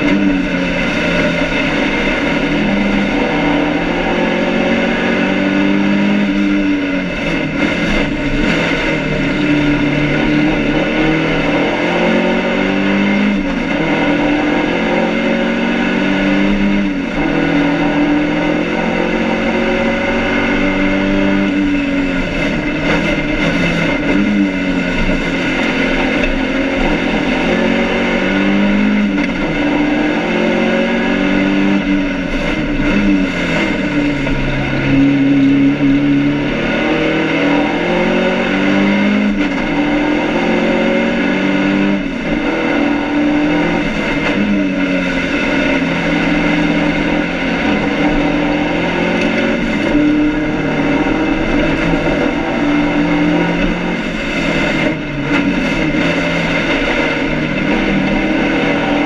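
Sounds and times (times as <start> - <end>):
race car engine revving through gears: 0.0 - 59.0.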